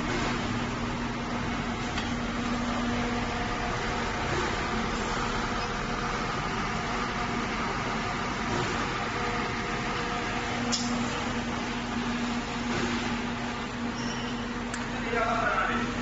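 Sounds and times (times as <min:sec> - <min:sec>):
machine hum and hiss: 0:00.0 - 0:16.0.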